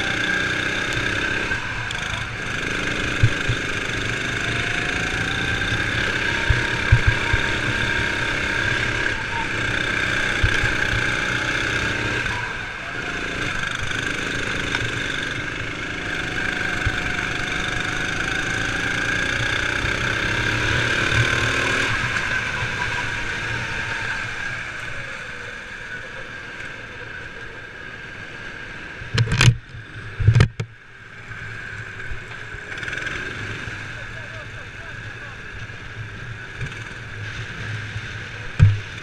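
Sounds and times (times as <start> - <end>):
kart engine running: 0.0 - 39.0.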